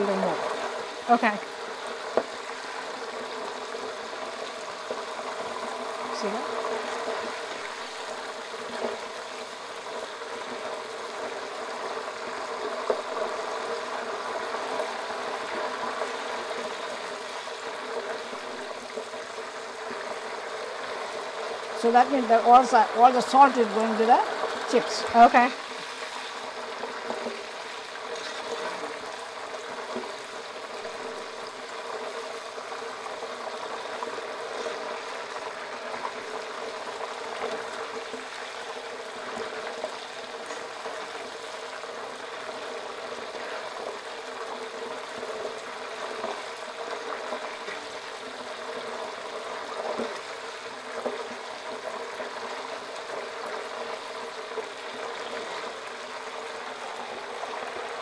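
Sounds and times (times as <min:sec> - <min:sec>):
slices deep-frying in oil: 0:00.0 - 0:58.0.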